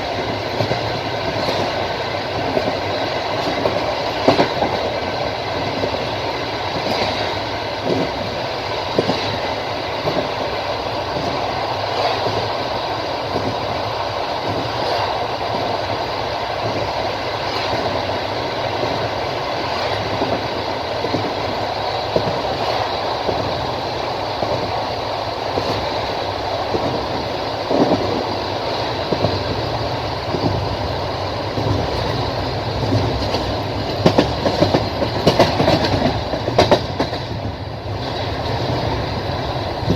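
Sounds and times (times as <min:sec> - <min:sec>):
train carriage rumbling: 0:00.0 - 0:39.9.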